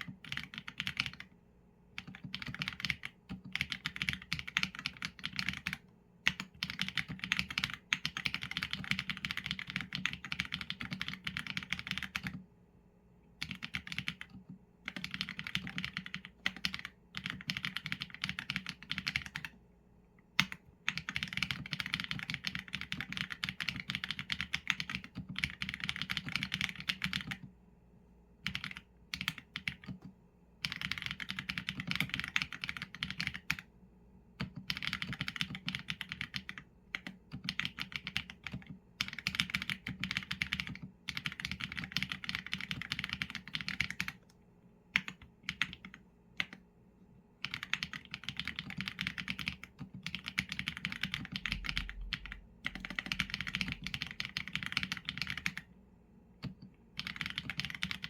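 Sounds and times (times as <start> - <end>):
mechanical keyboard typing: 0.0 - 1.3, 2.0 - 12.4, 13.4 - 19.6, 20.4 - 27.5, 28.4 - 33.7, 34.4 - 44.3, 45.0 - 46.6, 47.4 - 55.7, 56.4 - 58.0.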